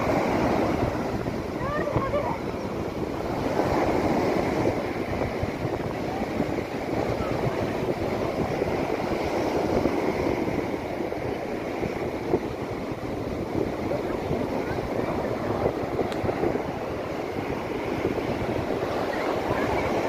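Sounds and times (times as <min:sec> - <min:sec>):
sea surf breaking: 0:00.0 - 0:20.0
wind buffeting microphone: 0:00.0 - 0:20.0.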